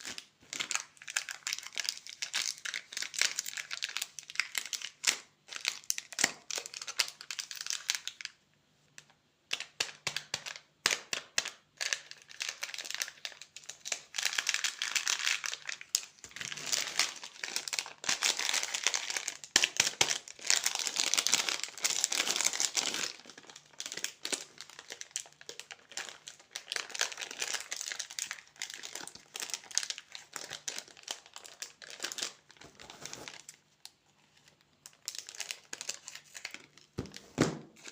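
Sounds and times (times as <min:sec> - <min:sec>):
plastic wrappers crinkling: 0:00.0 - 0:08.4, 0:11.4 - 0:37.9.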